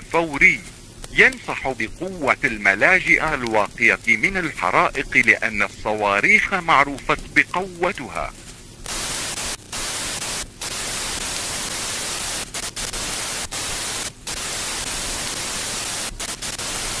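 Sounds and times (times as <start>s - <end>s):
television static hiss: 0.0s - 17.0s.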